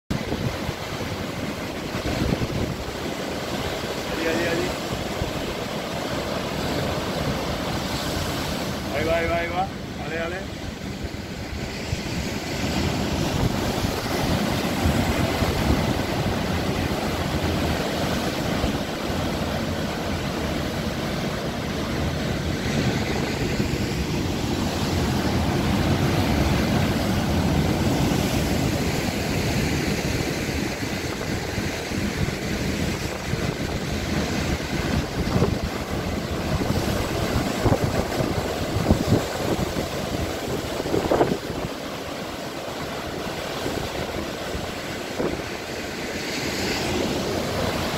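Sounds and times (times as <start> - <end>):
wind buffeting microphone: 0.1 - 9.0, 10.5 - 47.9
rough sea breaking on rock: 0.1 - 47.9.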